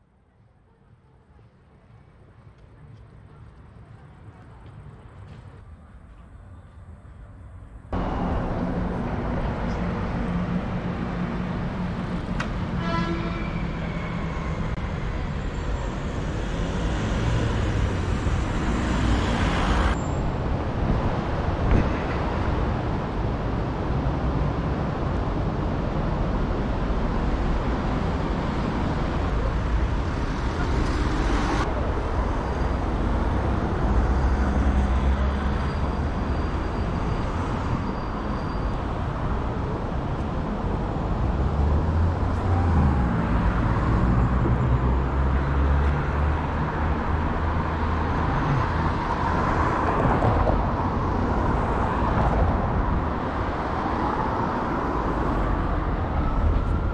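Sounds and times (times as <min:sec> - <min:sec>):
road noise: 0:00.0 - 0:56.9
cars driving past: 0:07.9 - 0:56.9.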